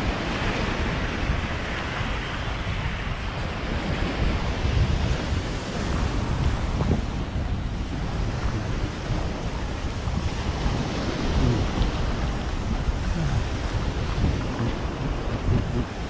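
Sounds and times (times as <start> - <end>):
ocean surf on a beach: 0.0 - 16.0
wind buffeting microphone: 0.0 - 16.0.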